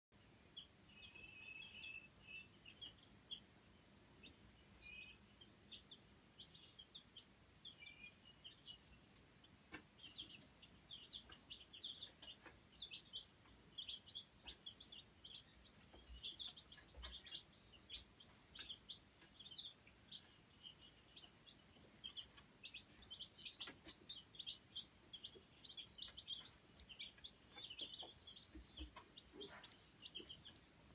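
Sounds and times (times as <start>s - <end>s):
chicks peeping: 0.2s - 30.9s.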